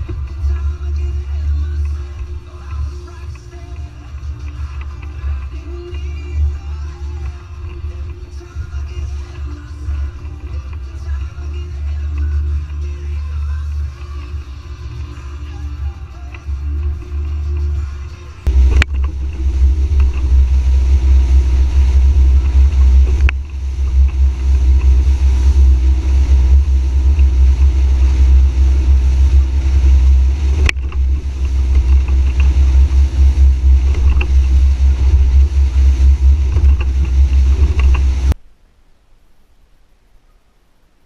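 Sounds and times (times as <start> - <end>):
boat engine rumbling: 0.0 - 38.4.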